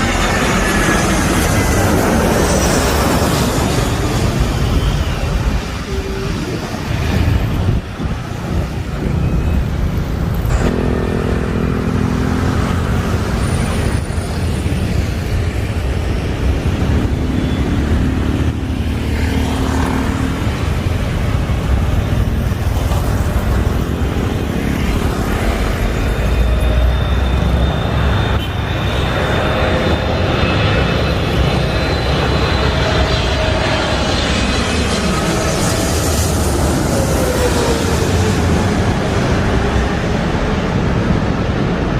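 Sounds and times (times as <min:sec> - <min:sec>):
jet airliner engines rumbling: 0:00.0 - 0:41.9.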